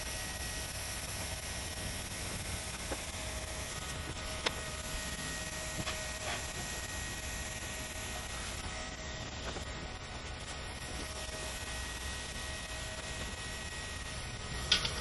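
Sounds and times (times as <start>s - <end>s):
hot-air gun blowing: 0.0s - 15.0s.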